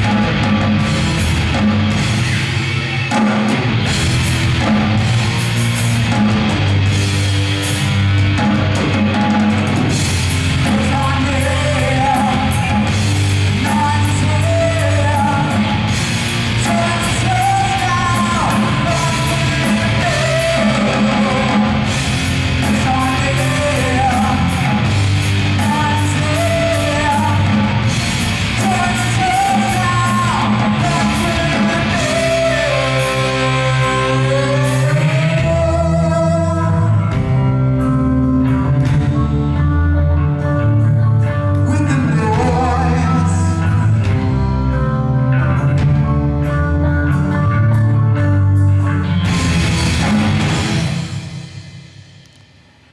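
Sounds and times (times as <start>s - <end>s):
bending lead guitar melody: 0.0s - 52.5s
bass guitar: 0.0s - 52.9s
distorted electric guitars: 0.0s - 52.9s
drum kit: 0.0s - 52.9s.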